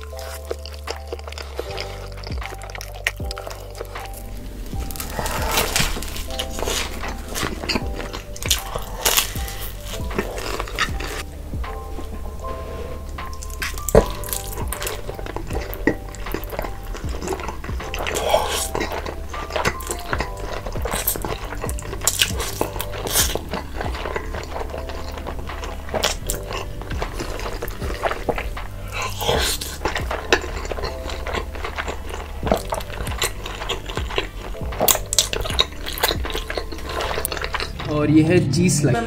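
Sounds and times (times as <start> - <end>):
slurping and chewing: 0.0 - 38.0
quiet background music: 0.0 - 39.0.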